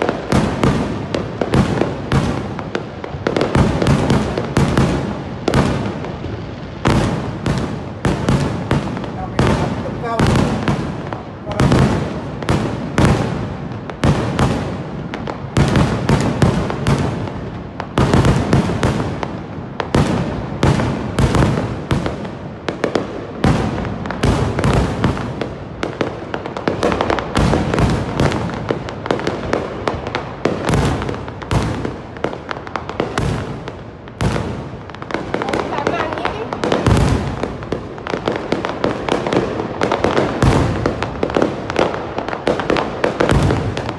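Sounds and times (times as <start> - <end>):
fireworks cracks and bangs: 0.0 - 43.9.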